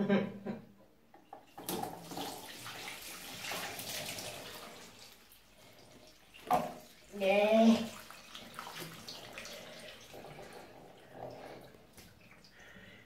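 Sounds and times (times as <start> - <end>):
water pouring and splashing: 1.4 - 13.0.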